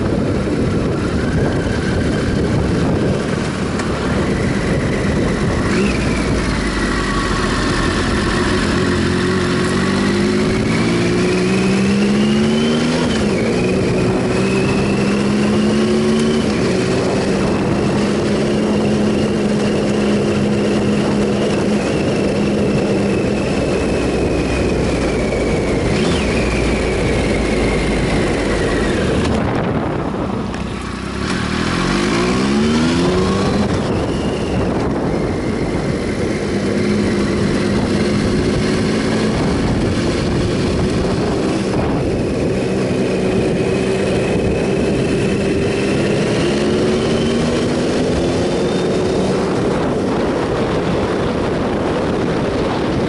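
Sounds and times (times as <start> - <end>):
motorcycle engine revving: 0.0 - 53.0
wind noise rushing: 0.0 - 53.0.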